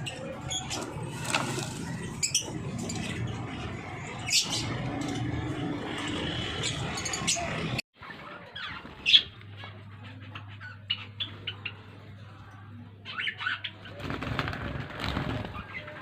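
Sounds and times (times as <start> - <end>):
lovebirds chirping and squawking: 0.0 - 16.0.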